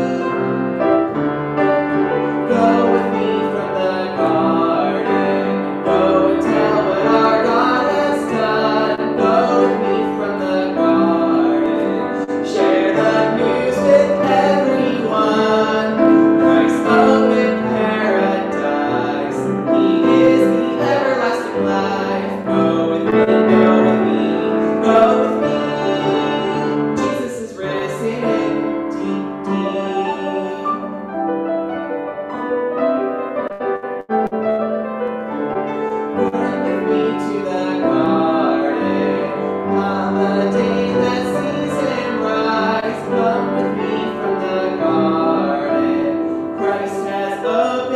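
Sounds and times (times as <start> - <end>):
upright piano music: 0.0 - 47.9.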